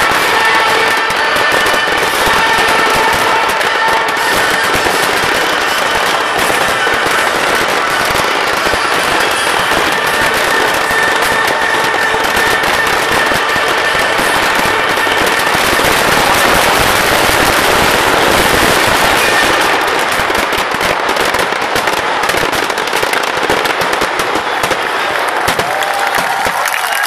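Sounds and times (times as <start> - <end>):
firework bangs: 0.0 - 27.0
fireworks crackling: 0.0 - 27.0.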